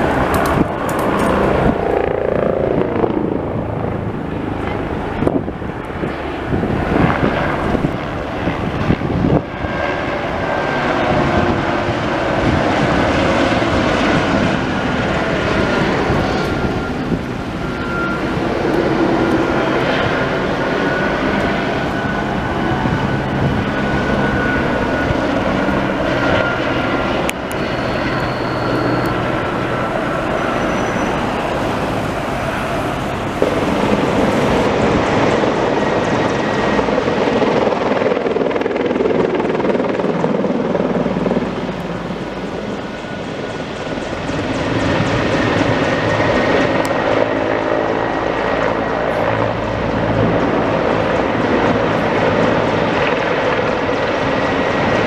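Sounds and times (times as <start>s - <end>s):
helicopter flying past: 0.0s - 55.0s
helicopter rotors and turbines: 0.0s - 55.0s.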